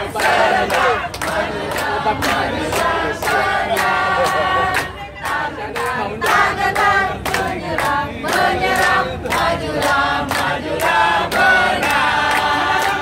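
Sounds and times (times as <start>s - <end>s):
group singing in chorus: 0.0s - 13.0s.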